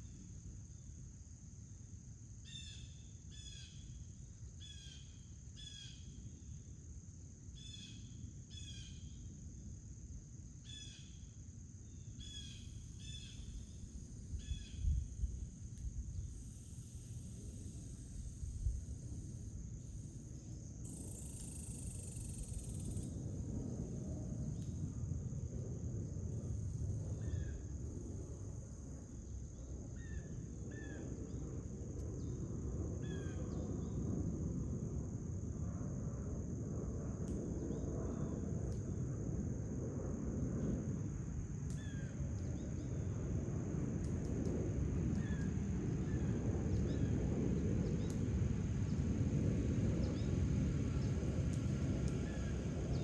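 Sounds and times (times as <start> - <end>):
insect trill: 0.0 - 53.0.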